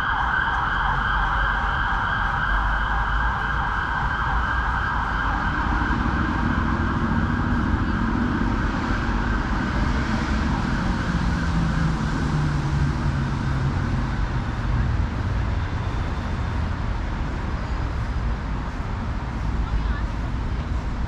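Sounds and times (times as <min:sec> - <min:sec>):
emergency vehicle siren: 0:00.0 - 0:21.0
road traffic: 0:00.0 - 0:21.0.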